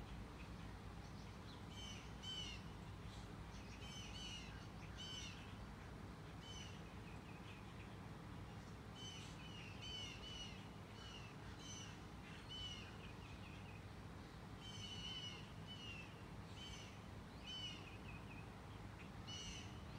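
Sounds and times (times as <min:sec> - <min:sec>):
low steady background noise: 0:00.0 - 0:19.9.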